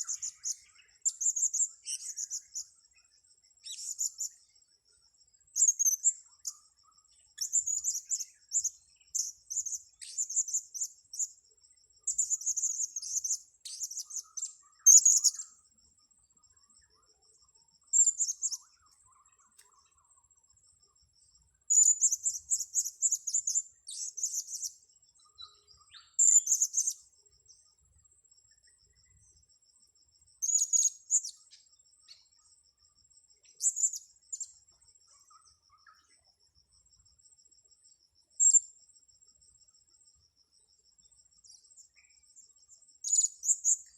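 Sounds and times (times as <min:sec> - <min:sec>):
cricket trill: 0:00.0 - 0:43.9.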